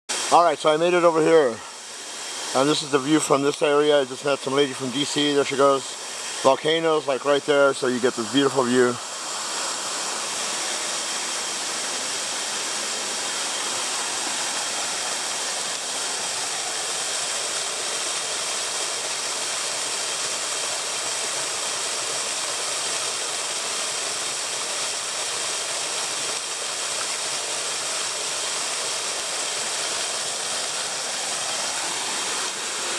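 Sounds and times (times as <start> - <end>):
small waterfall splashing into pool: 0.1 - 32.9.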